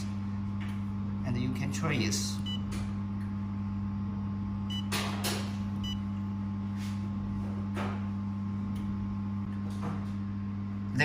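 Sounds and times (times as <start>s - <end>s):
low electrical machine hum: 0.0s - 11.0s.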